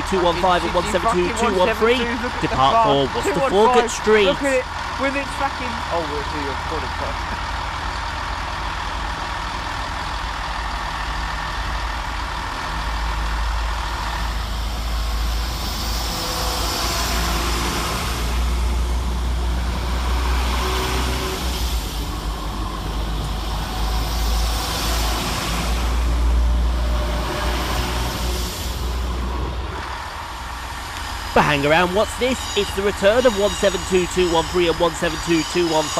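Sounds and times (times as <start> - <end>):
diesel train engines pulling out: 0.0 - 35.9.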